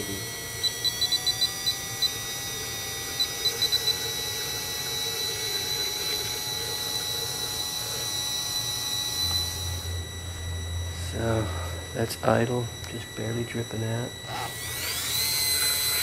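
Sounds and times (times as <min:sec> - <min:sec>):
small electric pump whine: 0:00.0 - 0:16.0.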